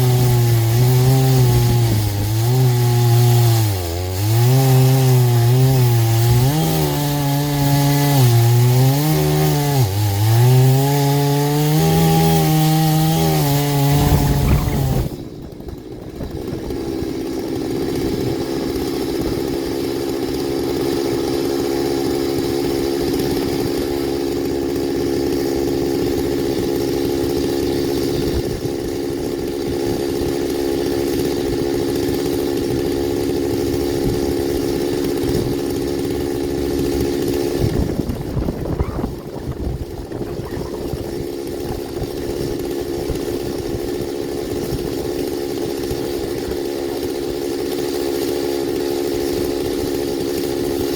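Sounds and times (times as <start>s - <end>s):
chainsaw ripping a log: 0.0s - 50.9s.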